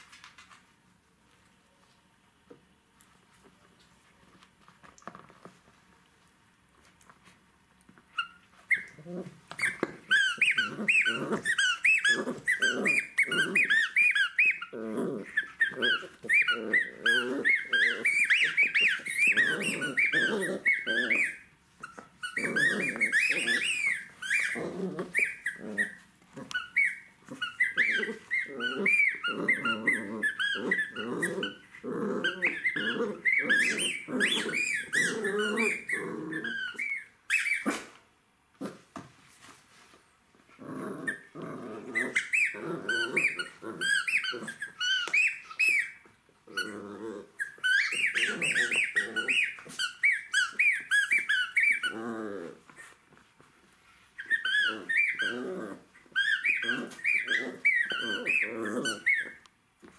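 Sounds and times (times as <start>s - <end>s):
puppy play-growling: 3.1s - 6.0s, 6.7s - 59.9s
puppy whining: 7.0s - 59.9s.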